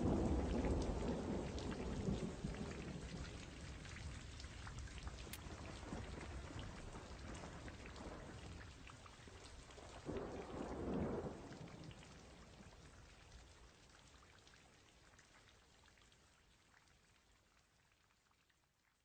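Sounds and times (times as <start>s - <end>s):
steady rain: 0.0s - 18.8s.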